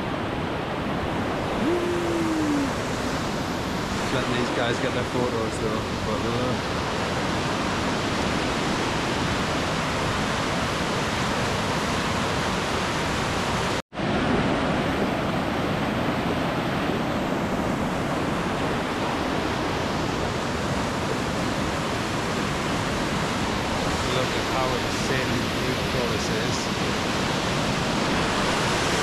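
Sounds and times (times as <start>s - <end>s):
river rapids roaring: 0.0s - 29.0s.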